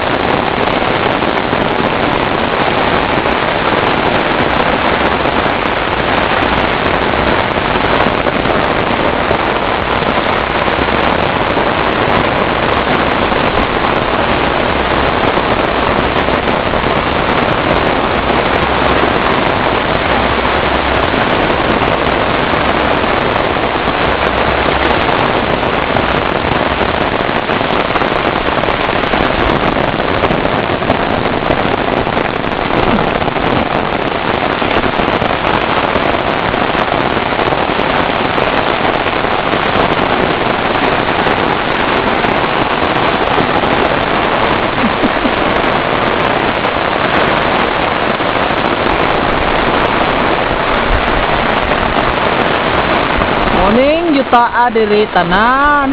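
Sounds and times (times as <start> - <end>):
heavy rain on foliage and umbrella: 0.0 - 55.9.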